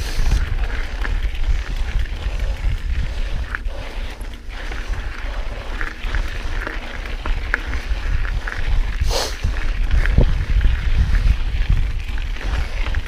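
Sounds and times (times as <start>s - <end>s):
bike rattling: 0.0s - 13.0s
tyres on rocky ground: 0.0s - 13.0s
wind buffeting microphone: 0.0s - 13.0s.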